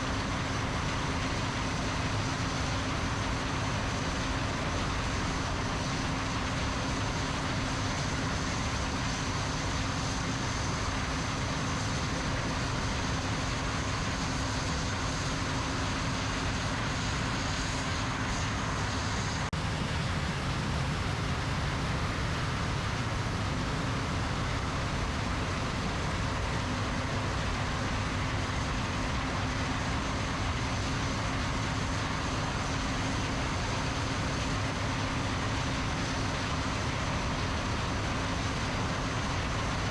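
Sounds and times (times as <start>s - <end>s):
combine harvester engine drone: 0.0s - 39.9s
high machinery whine: 0.0s - 39.9s.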